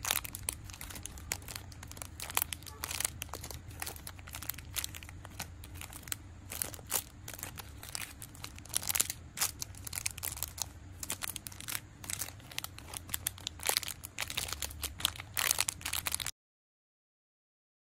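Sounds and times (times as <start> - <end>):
plastic bags crinkling: 0.0 - 16.3.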